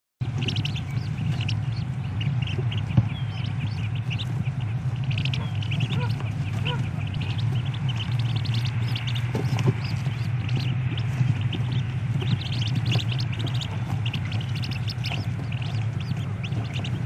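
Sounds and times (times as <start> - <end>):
ducklings peeping: 0.2 - 17.0
steady low hum: 0.2 - 17.0.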